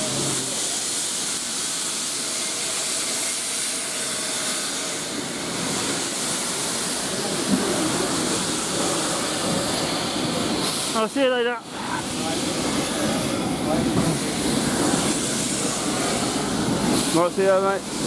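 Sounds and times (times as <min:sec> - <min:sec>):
train steam hissing: 0:00.0 - 0:18.0.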